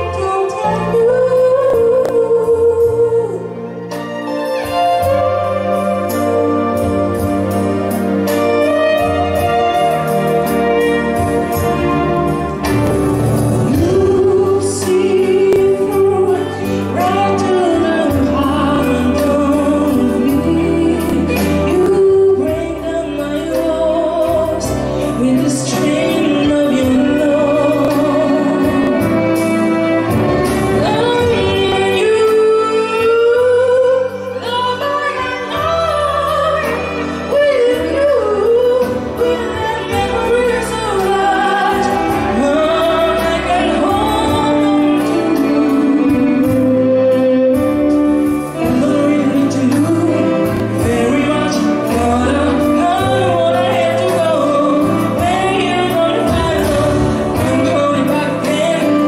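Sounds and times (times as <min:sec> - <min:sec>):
violin: 0:00.0 - 0:59.0
woman singing into microphone: 0:00.0 - 0:59.0.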